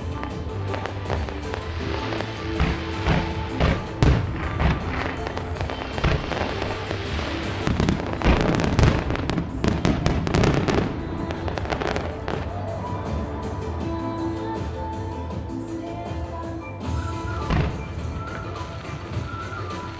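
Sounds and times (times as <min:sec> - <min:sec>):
fireworks bursting: 0:00.0 - 0:13.4, 0:16.9 - 0:19.9
show music: 0:00.0 - 0:19.9.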